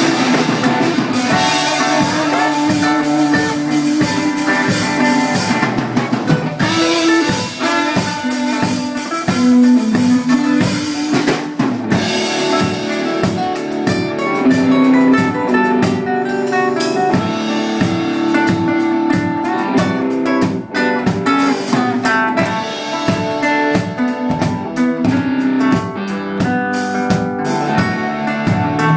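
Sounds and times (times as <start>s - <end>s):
live band playing: 0.0s - 28.9s.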